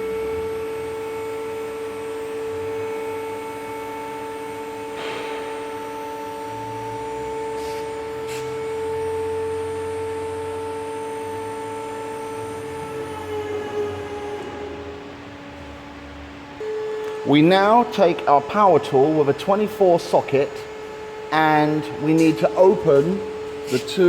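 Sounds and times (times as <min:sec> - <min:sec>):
hydraulic power unit whining: 0:00.0 - 0:24.0.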